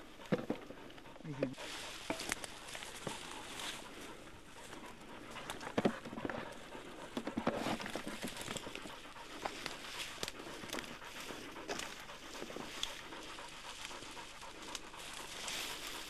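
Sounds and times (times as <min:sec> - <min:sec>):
dog panting: 0:00.0 - 0:16.0
rustling of ferns and undergrowth: 0:01.2 - 0:05.7, 0:06.4 - 0:16.0.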